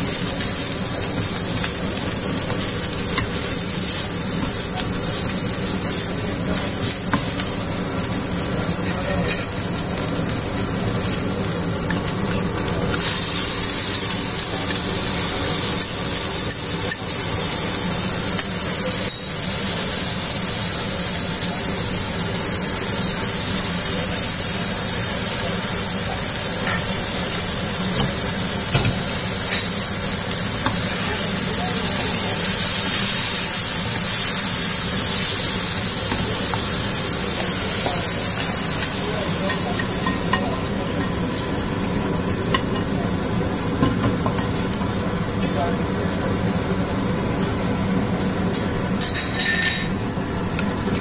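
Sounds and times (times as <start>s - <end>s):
chillies sizzling in hot oil: 0.0s - 51.0s.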